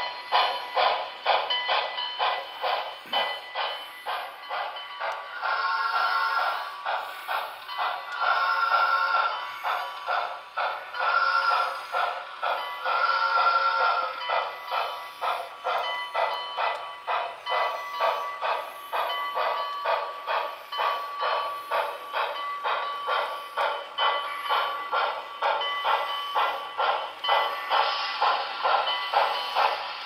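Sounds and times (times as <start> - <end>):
model locomotive steam chuffing: 0.0 - 30.0.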